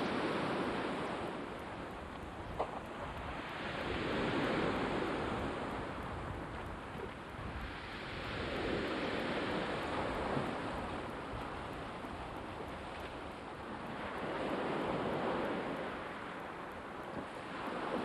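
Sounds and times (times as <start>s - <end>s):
sea waves breaking ashore: 0.0s - 18.0s.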